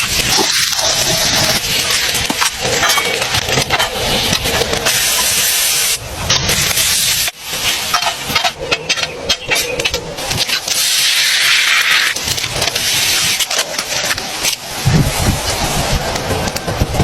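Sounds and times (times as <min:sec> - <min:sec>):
cooking hiss with crackles: 0:00.0 - 0:17.0.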